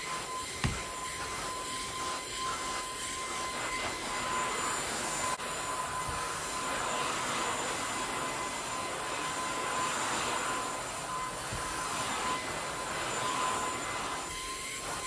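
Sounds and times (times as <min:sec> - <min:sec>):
stick vacuum whining: 0:00.0 - 0:15.0.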